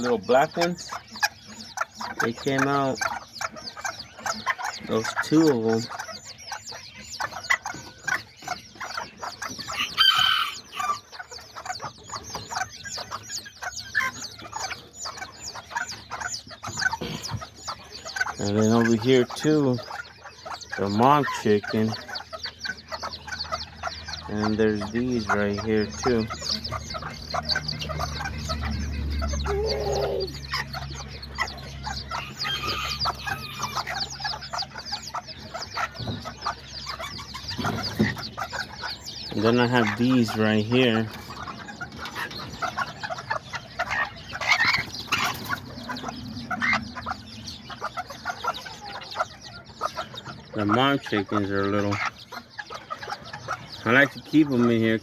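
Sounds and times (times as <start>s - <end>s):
adult chicken calling: 0.0s - 55.0s
chicks peeping: 0.0s - 55.0s.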